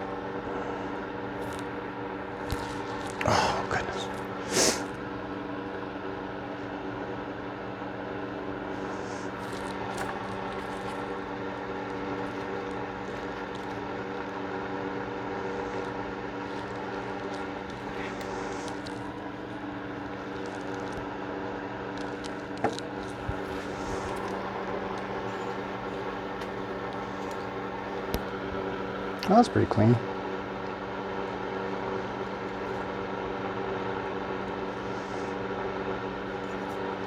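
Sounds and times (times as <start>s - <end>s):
droning hum: 0.0s - 37.0s.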